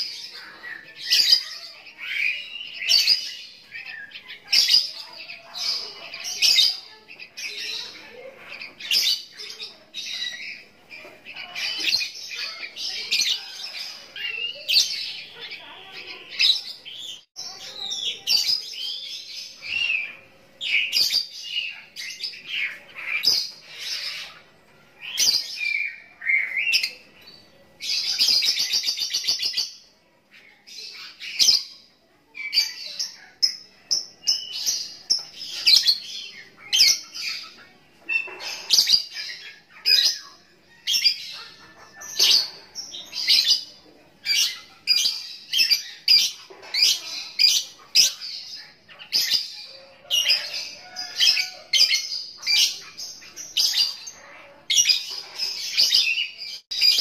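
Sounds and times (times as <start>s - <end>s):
lovebird chirping and trilling: 0.0s - 57.0s.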